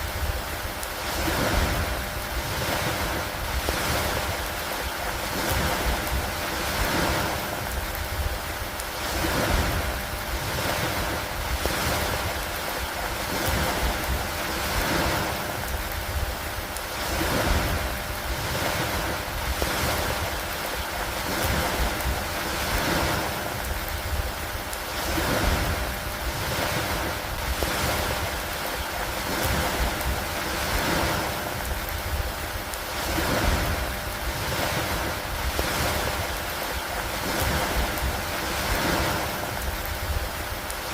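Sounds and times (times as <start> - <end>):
constant low rumble: 0.0 - 40.9
rain on wooden dock: 0.0 - 40.9
wind: 0.0 - 40.9.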